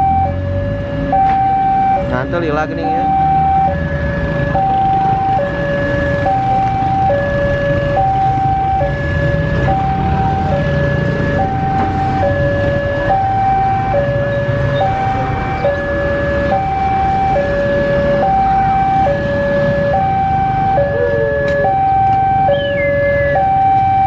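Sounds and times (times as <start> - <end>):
level crossing two-tone alarm: 0.0 - 24.0
road traffic rumbling: 0.0 - 24.0.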